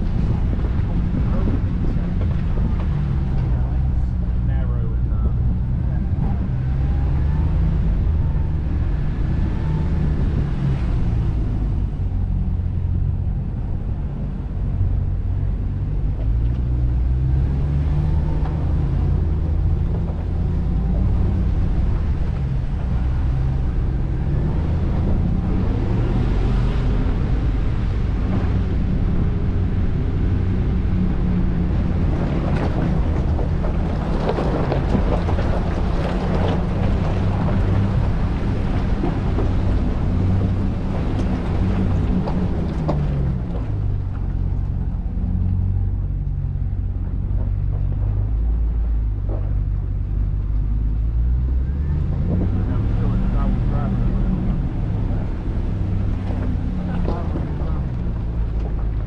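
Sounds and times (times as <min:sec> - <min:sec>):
vehicle engine and tyre rumble: 0:00.0 - 0:59.0
wind on the microphone: 0:00.0 - 0:59.0.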